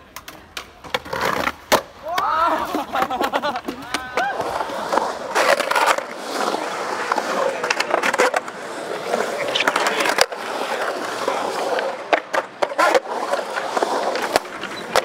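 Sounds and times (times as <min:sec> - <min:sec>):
skateboard clacking on concrete: 0:00.0 - 0:15.0
skateboard wheels rolling: 0:00.0 - 0:15.0.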